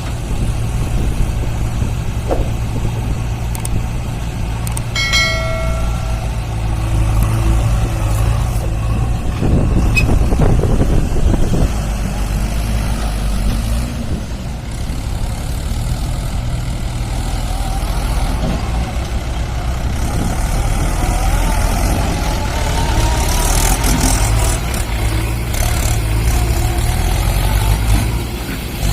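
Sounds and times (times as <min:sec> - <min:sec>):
heavy diesel engines running: 0:00.0 - 0:28.9.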